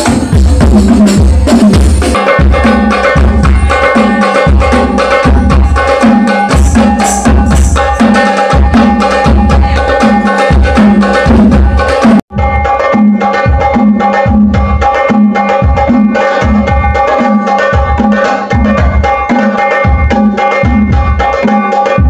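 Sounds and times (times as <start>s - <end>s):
hand drum percussion: 0.0s - 22.0s
loud music with heavy bass: 0.0s - 22.0s.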